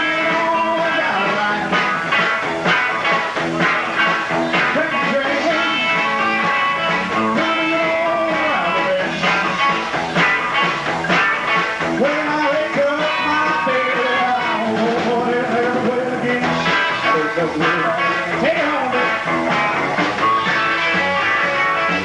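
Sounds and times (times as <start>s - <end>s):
electric guitar lead bending notes: 0.0s - 22.0s
rock band playing: 0.0s - 22.0s.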